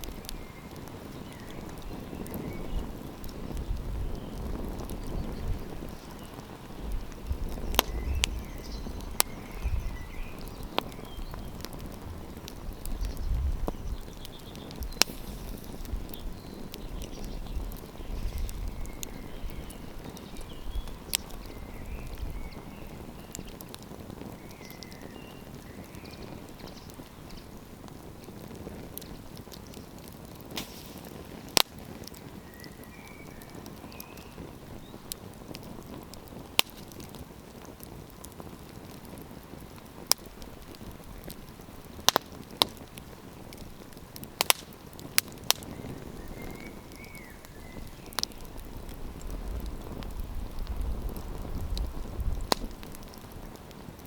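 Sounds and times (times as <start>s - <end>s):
campfire hissing: 0.0s - 54.0s
fire popping and snapping: 0.0s - 54.0s.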